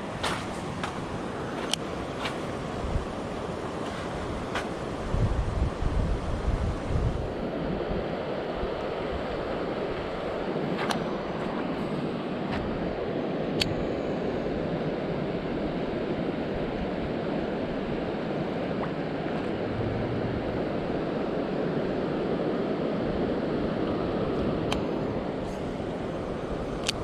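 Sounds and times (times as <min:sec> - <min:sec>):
steady rushing outdoor noise: 0:00.0 - 0:27.0.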